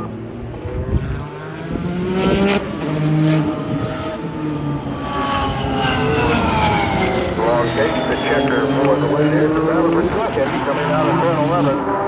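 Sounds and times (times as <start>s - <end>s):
race car engine accelerating: 0.0s - 12.0s.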